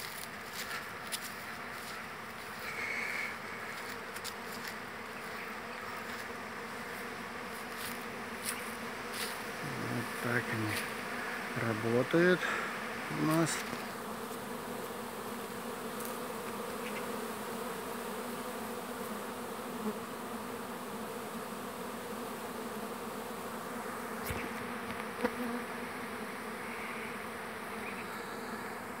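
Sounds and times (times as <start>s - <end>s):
honey bees humming: 0.0s - 29.0s.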